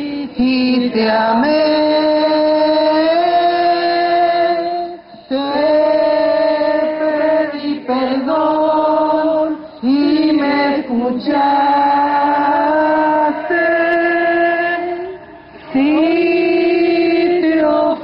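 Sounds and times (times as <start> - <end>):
congregation singing a hymn: 0.0 - 18.0
woman leading hymn singing: 0.0 - 18.0.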